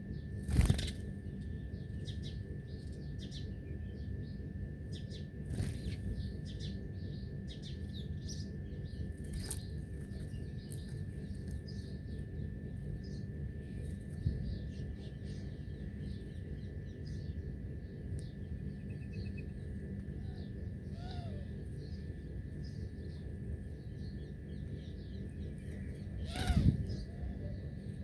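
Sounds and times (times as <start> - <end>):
birds chirping: 0.0 - 28.0
thin steady whine: 0.0 - 28.0.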